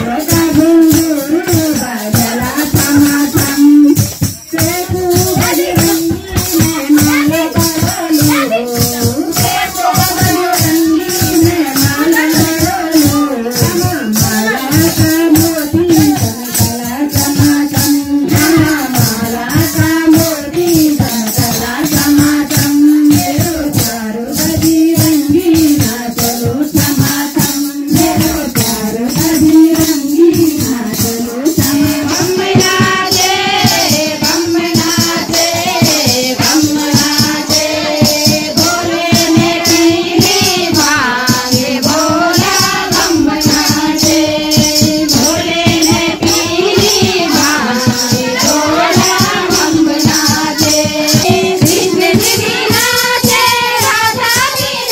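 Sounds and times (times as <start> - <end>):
devotional group singing: 0.0 - 54.9
hand percussion with rattles: 0.0 - 54.9.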